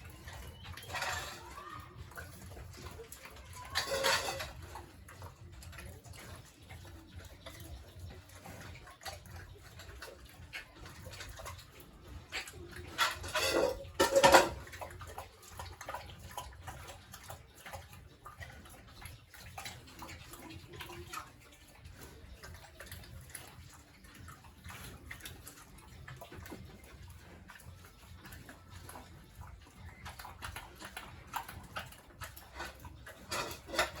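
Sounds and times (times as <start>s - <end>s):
small knocks and clatter: 0.0s - 22.1s, 28.2s - 34.0s.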